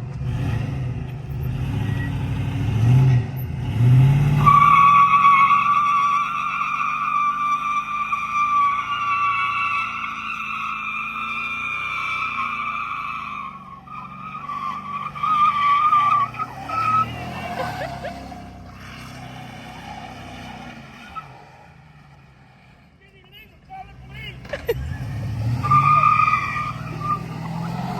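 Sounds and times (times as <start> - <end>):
tires squealing: 0.2 - 27.9.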